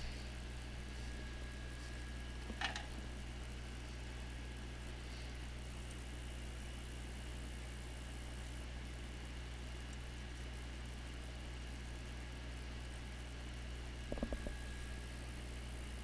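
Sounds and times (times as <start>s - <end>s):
machine hum with high whine: 0.0s - 16.0s.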